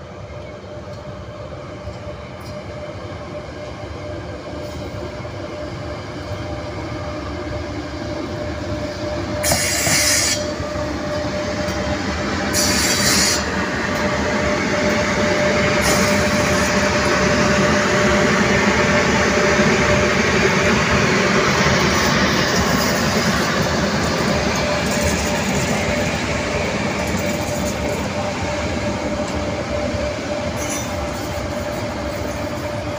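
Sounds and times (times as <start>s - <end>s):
locomotive hum: 0.0s - 32.9s
train wheels rumbling on rails: 0.0s - 32.9s.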